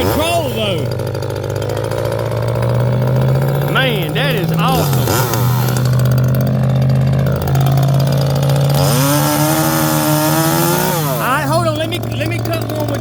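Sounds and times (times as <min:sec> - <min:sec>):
chainsaw running and revving: 0:00.0 - 0:13.0.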